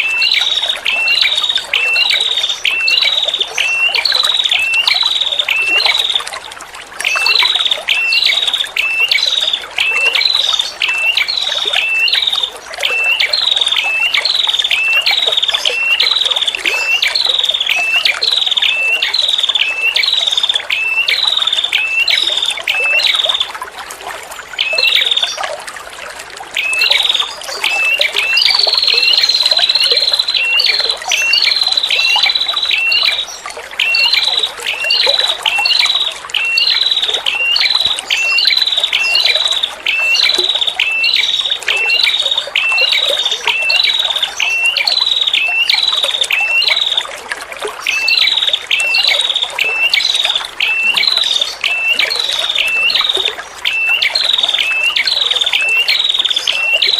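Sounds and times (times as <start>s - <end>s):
running water trickling: 0.0s - 56.9s.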